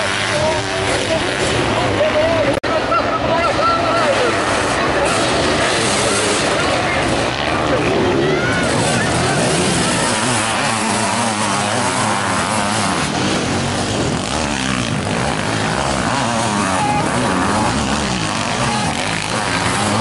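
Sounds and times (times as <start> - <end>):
motocross engines racing: 0.0 - 20.0.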